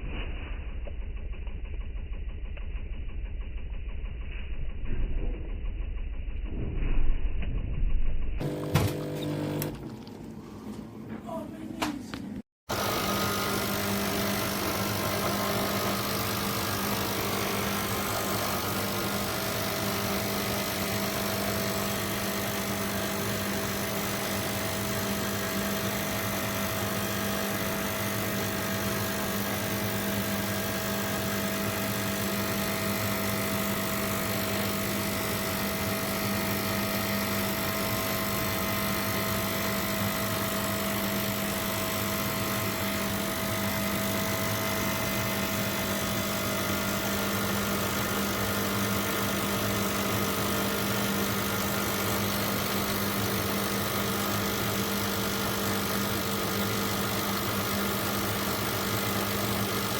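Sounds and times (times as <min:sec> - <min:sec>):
espresso machine humming and hissing: 0:08.4 - 0:10.7, 0:12.7 - 0:59.9.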